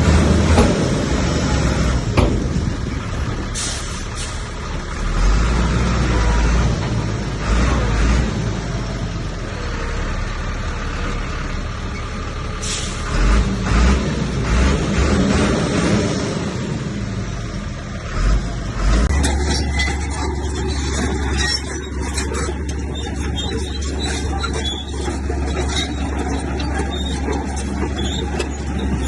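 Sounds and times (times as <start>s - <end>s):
heavy diesel machinery rumbling: 0.0s - 29.0s.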